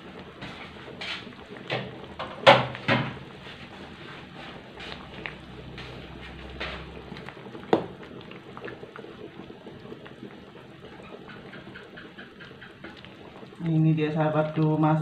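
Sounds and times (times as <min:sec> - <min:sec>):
curry simmering and bubbling: 0:00.0 - 0:15.0.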